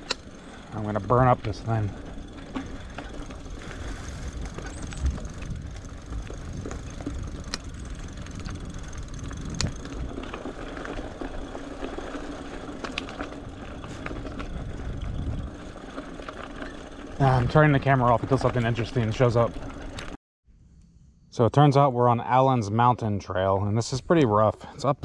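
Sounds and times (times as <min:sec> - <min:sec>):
bike tyres and frame rattling: 0:00.0 - 0:20.2.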